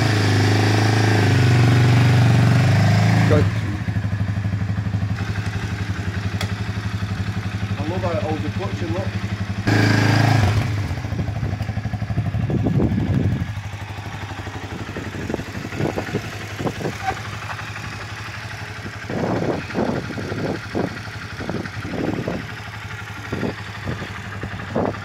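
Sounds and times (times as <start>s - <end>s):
motorcycle engine idling: 1.3s - 25.0s.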